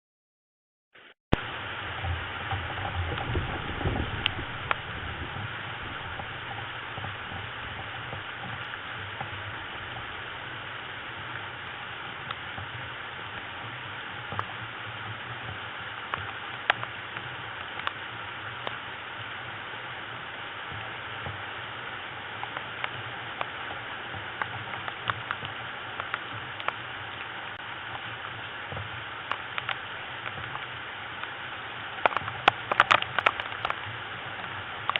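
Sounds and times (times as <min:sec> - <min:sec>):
steady rain falling: 0:01.0 - 0:34.9.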